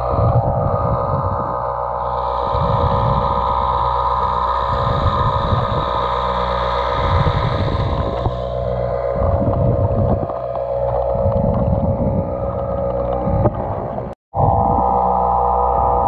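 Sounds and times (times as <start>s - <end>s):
steady tonal hum: 0.0s - 16.0s
underwater rumble of moving water: 0.0s - 16.0s.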